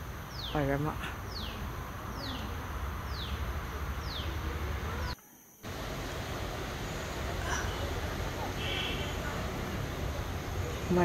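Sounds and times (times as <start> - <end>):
low background hiss and rumble: 0.0 - 11.0.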